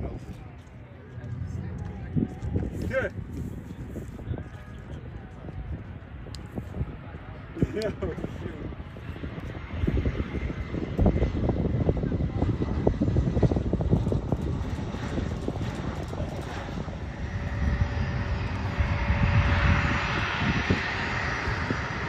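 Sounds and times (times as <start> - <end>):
jet engine rumble: 0.0 - 22.0
jet engine rushing whine: 0.0 - 22.0.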